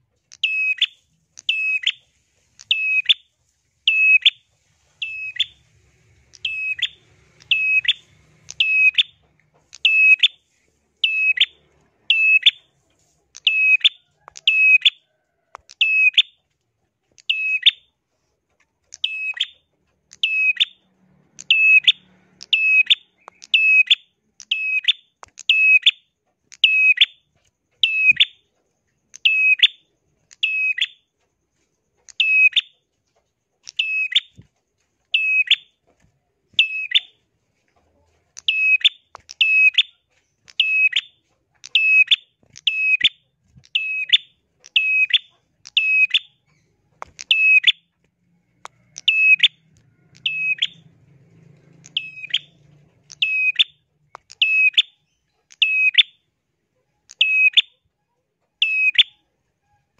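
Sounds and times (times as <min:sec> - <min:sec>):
bird sharp high chirps: 0:00.3 - 0:10.4, 0:11.0 - 0:12.7, 0:13.3 - 0:16.4, 0:17.2 - 0:17.9, 0:18.9 - 0:31.1, 0:32.0 - 0:32.8, 0:33.6 - 0:34.4, 0:35.1 - 0:35.8, 0:36.5 - 0:37.2, 0:38.4 - 0:48.0, 0:48.6 - 0:56.3, 0:57.0 - 0:57.8, 0:58.6 - 0:59.8.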